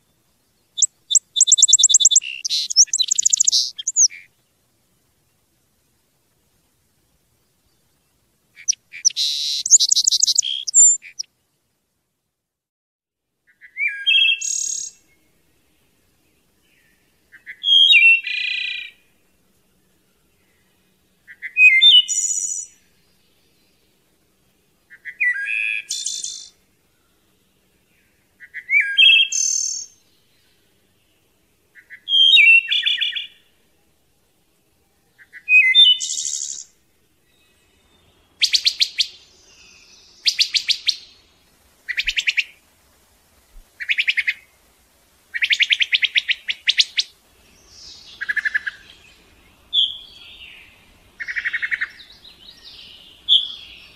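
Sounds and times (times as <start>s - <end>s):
songbird singing: 0.0s - 11.9s, 13.4s - 53.9s.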